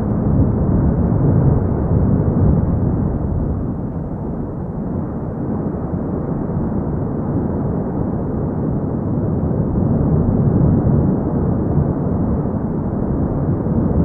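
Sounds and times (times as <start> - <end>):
volcano rumbling: 0.0 - 14.0.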